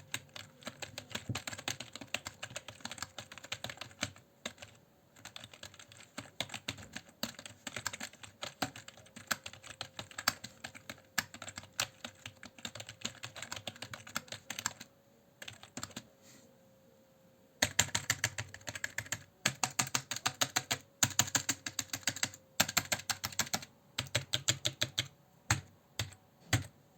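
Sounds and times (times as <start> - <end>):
computer keyboard typing: 0.0 - 16.0, 17.6 - 26.8.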